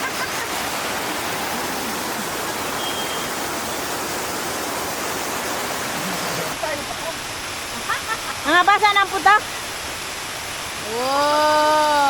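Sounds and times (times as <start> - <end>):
waterfall and stream water rushing: 0.0 - 12.0.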